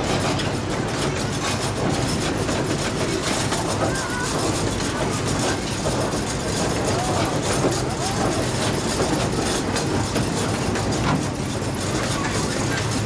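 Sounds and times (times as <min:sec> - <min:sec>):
train wheels clattering on track: 0:00.0 - 0:13.0.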